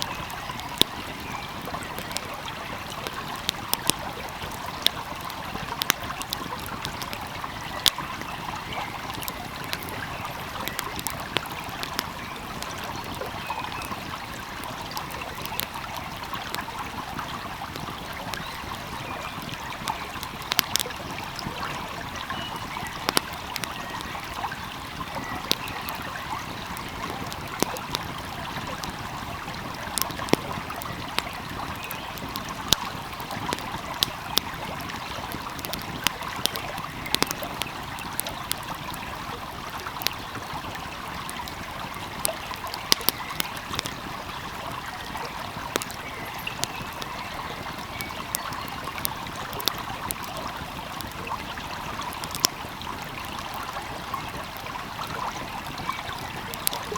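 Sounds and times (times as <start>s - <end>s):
stream flowing: 0.0s - 56.9s
wood fire crackling and popping: 0.0s - 56.9s.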